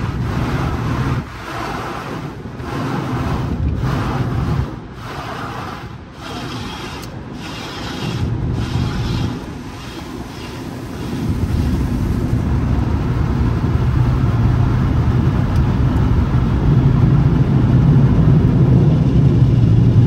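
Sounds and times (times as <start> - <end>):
car wash rushing: 0.0 - 20.0.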